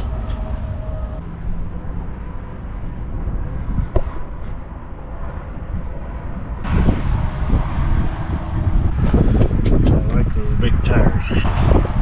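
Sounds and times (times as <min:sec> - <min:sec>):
tractor engine rumble: 0:00.0 - 0:12.0.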